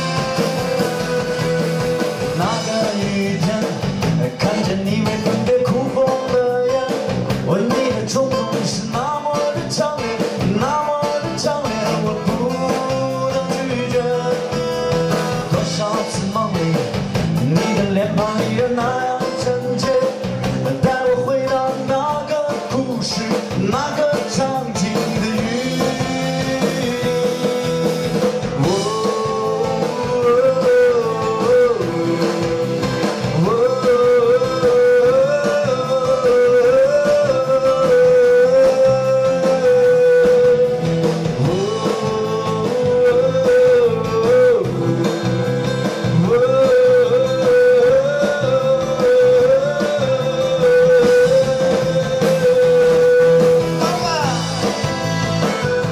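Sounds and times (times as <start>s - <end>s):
accordion: 0.0s - 55.9s
bass guitar: 0.0s - 55.9s.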